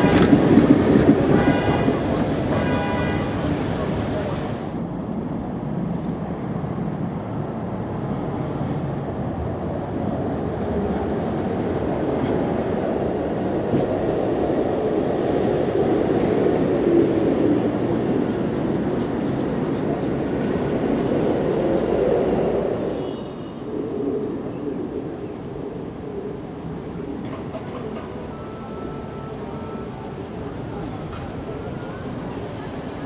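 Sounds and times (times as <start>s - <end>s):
tram rumbling on rails: 0.0s - 33.0s.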